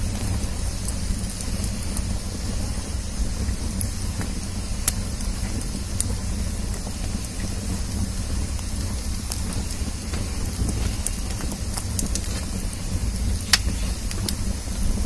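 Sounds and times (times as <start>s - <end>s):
fire low rumble and hiss: 0.0s - 15.0s
wood fire crackling and popping: 0.0s - 15.0s.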